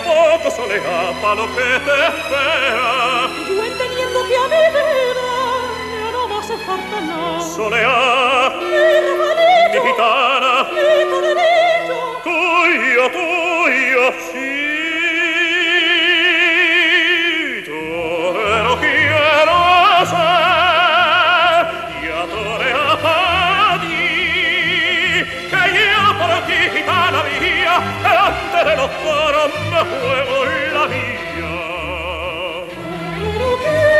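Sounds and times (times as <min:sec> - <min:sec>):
operatic duet singing: 0:00.0 - 0:33.9
orchestra playing: 0:00.0 - 0:33.9.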